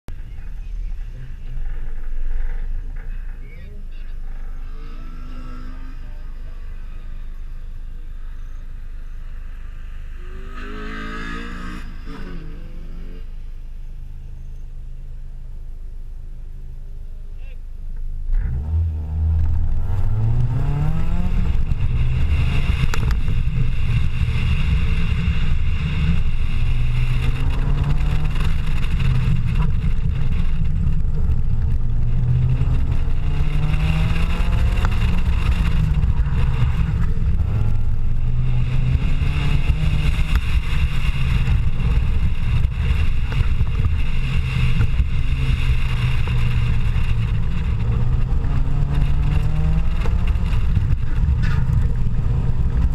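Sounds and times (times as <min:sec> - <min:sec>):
car engine accelerating: 0:00.1 - 0:52.9
road and wind noise: 0:00.1 - 0:52.9.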